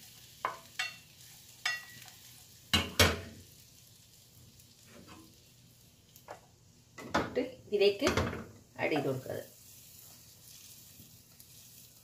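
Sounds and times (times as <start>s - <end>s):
faint sizzle: 0.0s - 12.0s.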